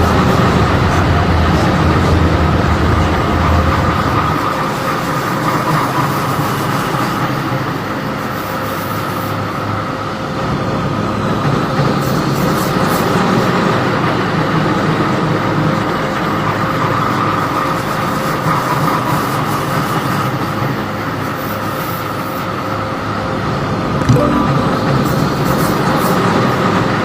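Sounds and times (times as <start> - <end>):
train wheels rumbling on rail: 0.0 - 23.8.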